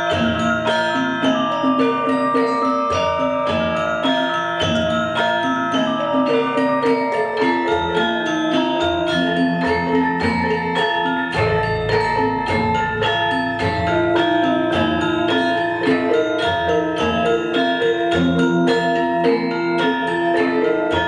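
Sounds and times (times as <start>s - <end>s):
gamelan ensemble playing: 0.0s - 21.0s.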